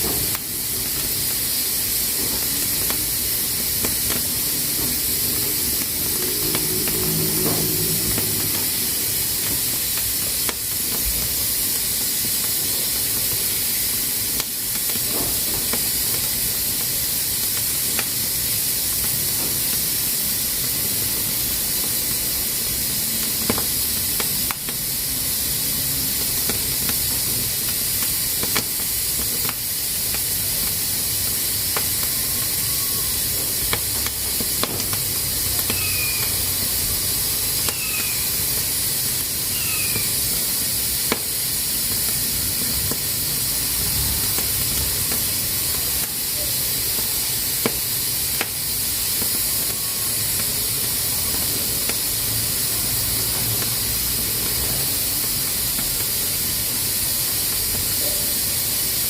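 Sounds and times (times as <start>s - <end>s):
pressure cooker hissing steam: 0.0s - 59.0s.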